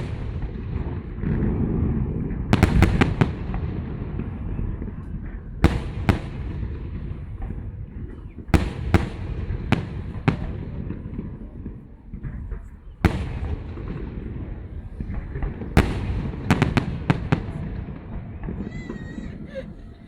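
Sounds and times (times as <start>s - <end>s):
fireworks bursting bangs: 0.0s - 20.0s.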